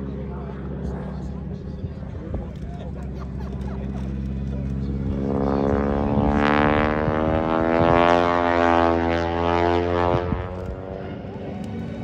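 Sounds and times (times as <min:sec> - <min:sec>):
propeller plane engine diving: 0:00.0 - 0:12.0.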